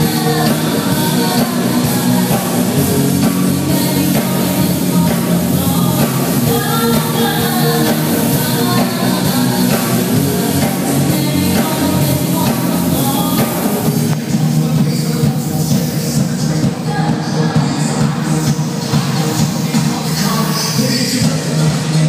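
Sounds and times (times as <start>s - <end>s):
woman singing into microphone: 0.0s - 15.0s, 16.4s - 20.4s
live band playing pop: 0.0s - 22.0s.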